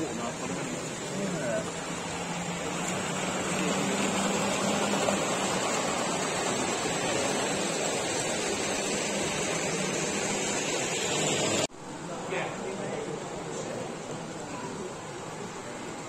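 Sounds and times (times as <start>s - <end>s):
rushing hall background noise: 0.0s - 16.0s.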